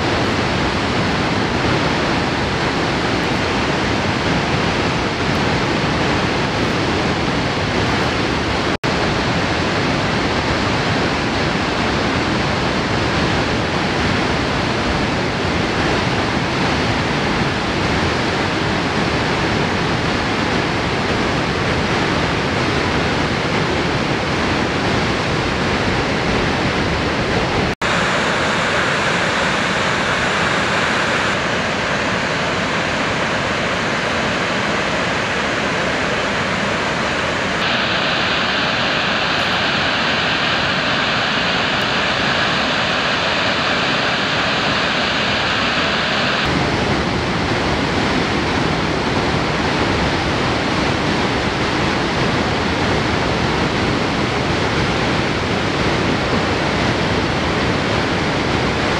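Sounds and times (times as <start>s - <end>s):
waterfall roaring: 0.0s - 58.9s.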